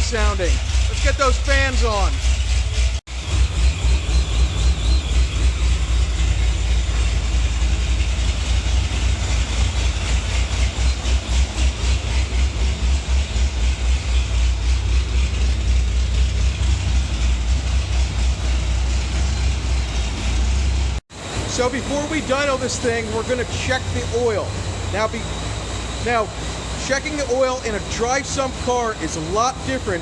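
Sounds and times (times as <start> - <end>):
car engine idling: 0.0 - 30.0
cooling fans blowing: 0.0 - 30.0.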